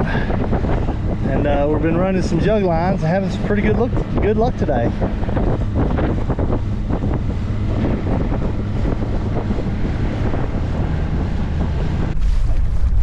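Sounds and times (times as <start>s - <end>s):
water noise: 0.0s - 13.0s
wind buffeting microphone: 0.0s - 13.0s.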